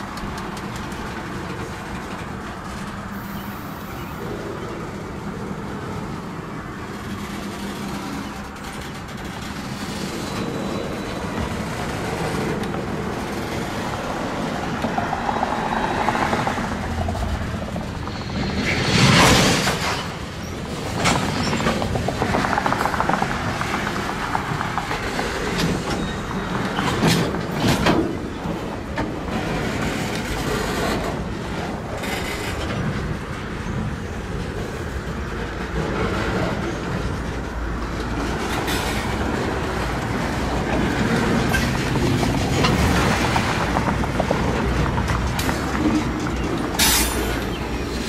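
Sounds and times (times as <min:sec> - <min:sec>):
steel wheels rumbling on rail: 0:00.0 - 0:48.0
wheels clanking over rail joints: 0:00.0 - 0:48.0.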